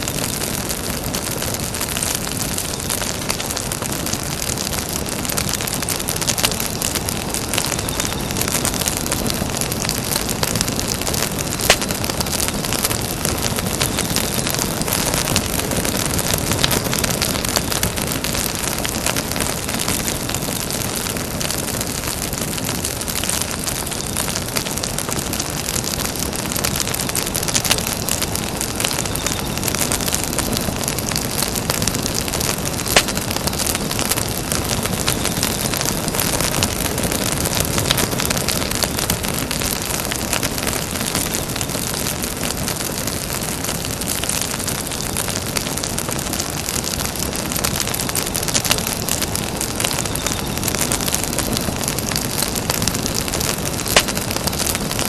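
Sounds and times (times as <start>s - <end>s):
campfire crackling and popping: 0.0s - 55.0s
fire hiss: 0.0s - 55.0s.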